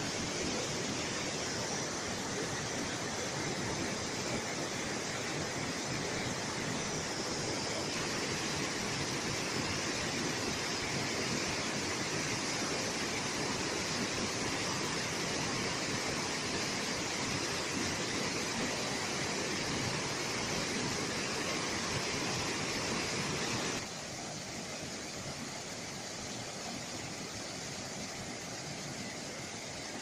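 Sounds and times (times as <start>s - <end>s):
small waterfall splashing into pool: 0.0s - 30.0s
white water rushing over rocks: 0.0s - 30.0s.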